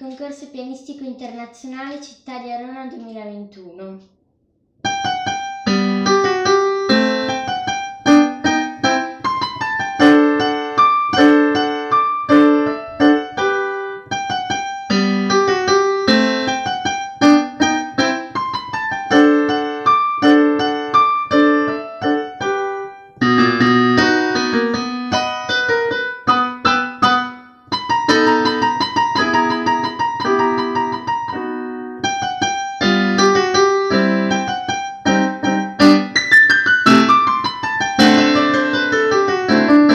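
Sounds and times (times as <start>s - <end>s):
classical piano music: 4.8s - 39.9s.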